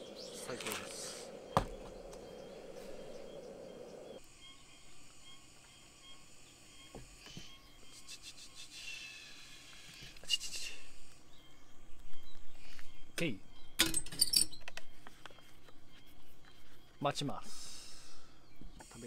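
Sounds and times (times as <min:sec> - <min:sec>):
insect song with chirps: 0:00.0 - 0:19.0.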